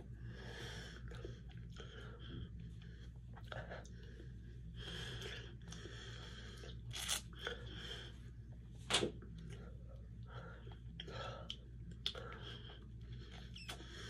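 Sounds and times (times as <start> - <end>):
breaths: 0.1 - 8.4, 9.4 - 11.6, 12.2 - 14.0.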